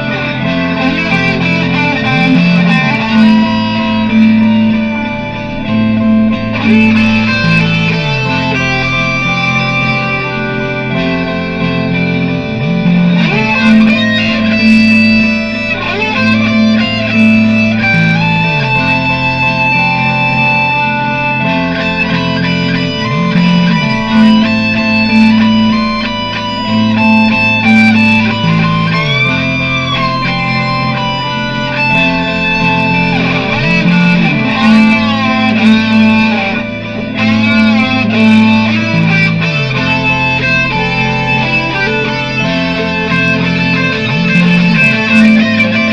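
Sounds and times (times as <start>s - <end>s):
electric guitar improvising: 0.0s - 45.9s
looped guitar layer: 0.0s - 45.9s.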